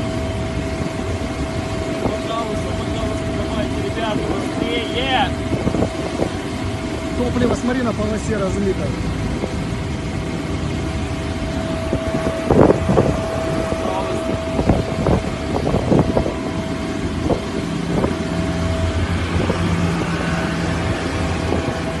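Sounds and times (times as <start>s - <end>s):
engine drone with whine: 0.0s - 22.0s.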